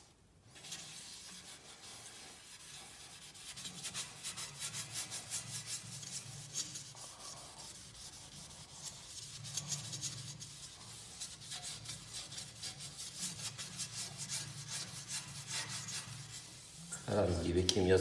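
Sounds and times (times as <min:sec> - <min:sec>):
sponge scrubbing glass: 0:00.5 - 0:17.4.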